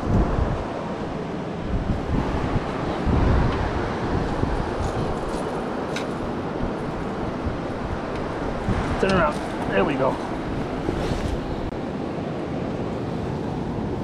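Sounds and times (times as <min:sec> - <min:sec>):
surf: 0:00.0 - 0:14.0
wind buffeting microphone: 0:00.0 - 0:14.0.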